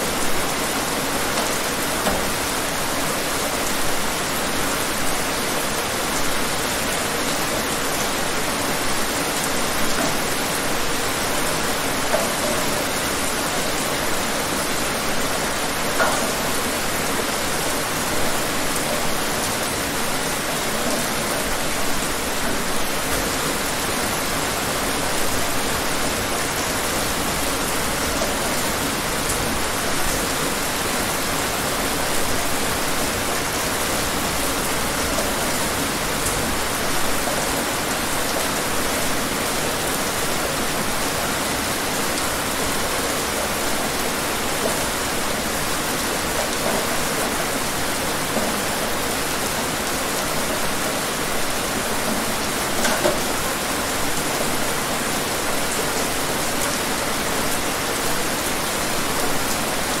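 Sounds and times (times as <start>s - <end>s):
steady rain hiss: 0.0s - 60.0s.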